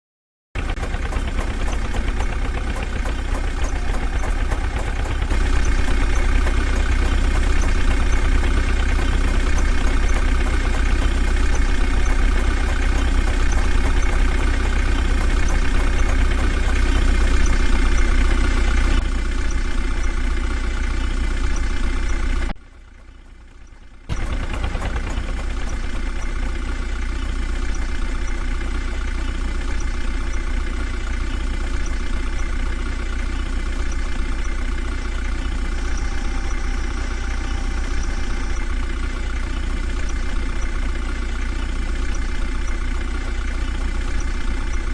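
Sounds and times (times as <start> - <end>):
heavy diesel engine running: 0.6 - 44.9.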